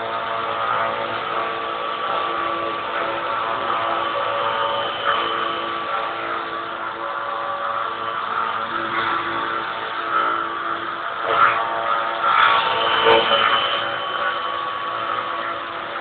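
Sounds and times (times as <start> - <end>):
router machine whine: 0.0 - 16.0.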